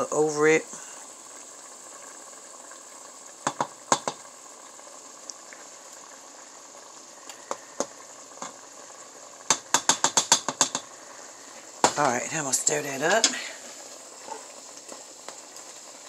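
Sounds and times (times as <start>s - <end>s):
food sizzling in simmering liquid: 0.0s - 16.0s.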